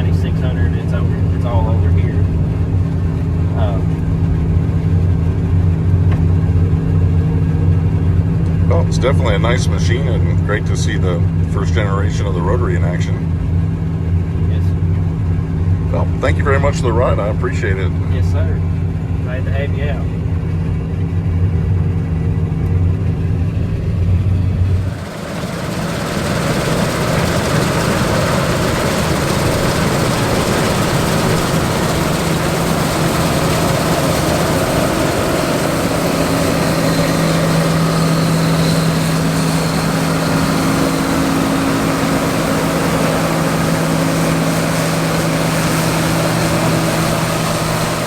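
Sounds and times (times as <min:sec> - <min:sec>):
combine harvester running: 0:00.0 - 0:48.0.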